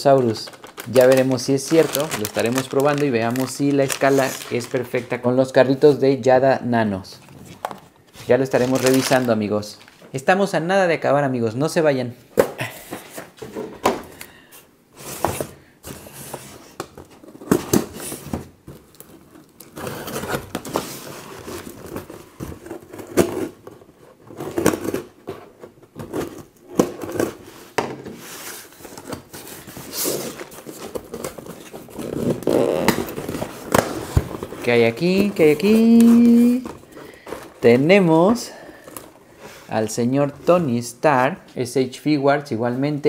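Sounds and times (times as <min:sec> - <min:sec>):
cardboard and plastic packaging rustling: 0:00.0 - 0:06.0, 0:06.9 - 0:10.4, 0:12.8 - 0:41.4.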